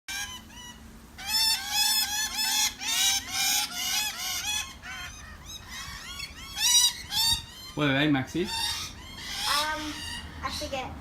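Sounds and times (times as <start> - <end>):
parrots chattering calls: 0.1 - 10.9.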